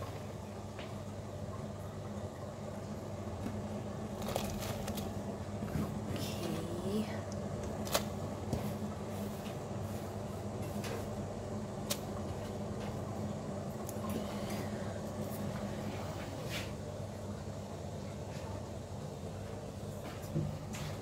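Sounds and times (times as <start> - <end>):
constant low hum: 0.0 - 21.0
water bubbling at a full boil: 0.0 - 21.0.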